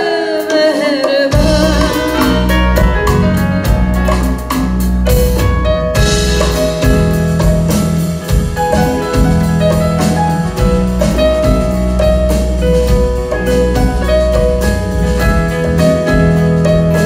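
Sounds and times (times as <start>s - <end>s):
drum kit: 0.0s - 17.0s
keyboard melody: 0.0s - 17.0s
guitars: 1.2s - 17.0s.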